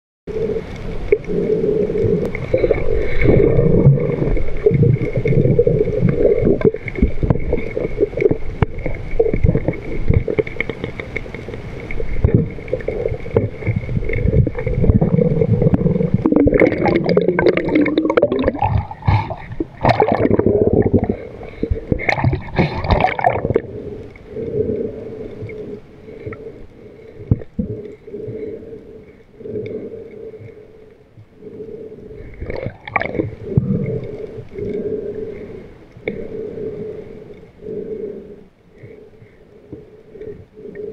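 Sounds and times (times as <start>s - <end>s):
water gurgling: 0.3s - 39.2s
crackling clicks underwater: 0.3s - 40.9s
underwater droning hum: 0.3s - 40.9s.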